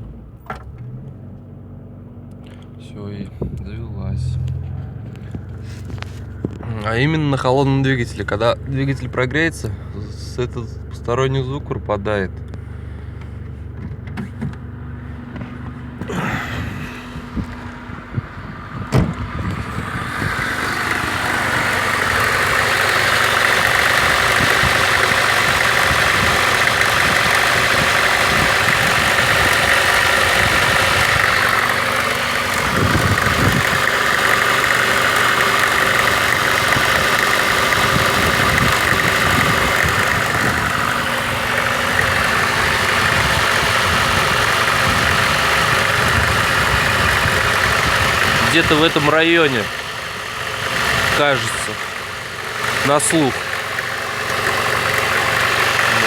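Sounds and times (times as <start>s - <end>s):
car engine idling: 0.0s - 56.0s
engine crackling: 0.0s - 56.0s.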